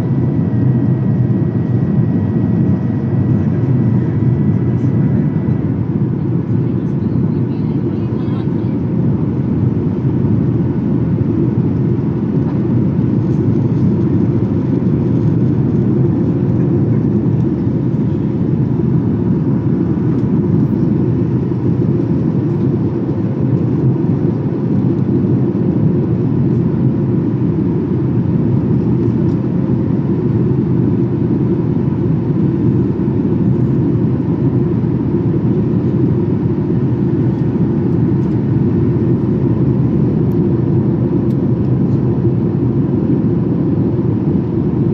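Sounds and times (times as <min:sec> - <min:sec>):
aircraft cabin engine roar: 0:00.0 - 0:44.9.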